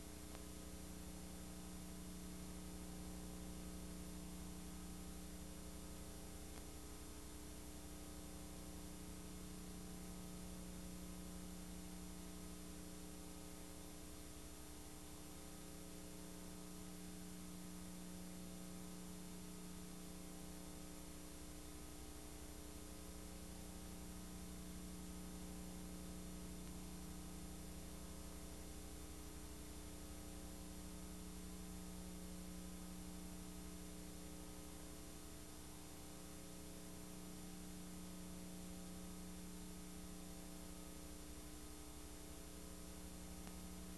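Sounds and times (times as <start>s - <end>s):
background hiss: 0.0s - 43.9s
steady hum: 0.0s - 43.9s.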